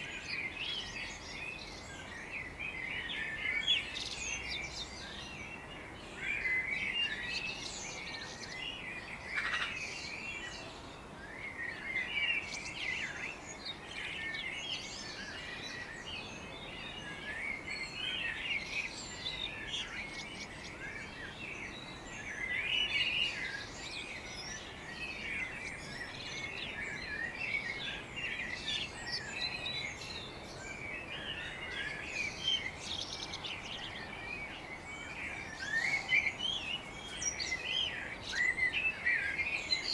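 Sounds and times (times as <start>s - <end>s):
faint steady hiss: 0.0s - 39.9s
songbirds chirping and singing: 0.0s - 39.9s.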